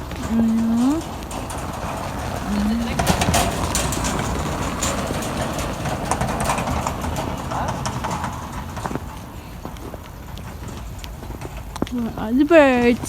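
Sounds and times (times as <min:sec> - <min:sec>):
knocks and clatter: 0:00.0 - 0:13.0
truck engine rumbling: 0:00.0 - 0:13.0.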